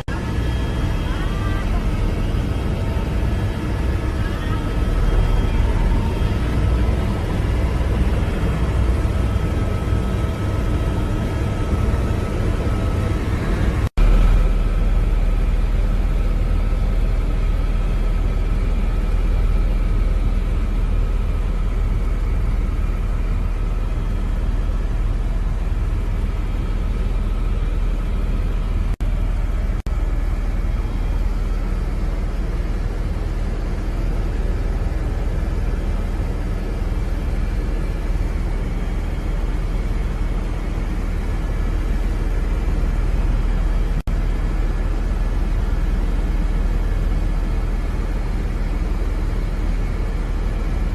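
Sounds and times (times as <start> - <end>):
faint high whine: 0.0 - 50.9
helicopter engine and rotor: 0.0 - 50.9.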